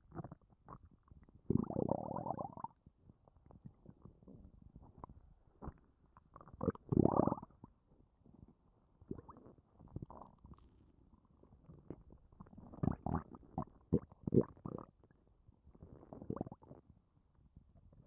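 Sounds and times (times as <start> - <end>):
stomach gurgling and rumbling: 0.0 - 18.0.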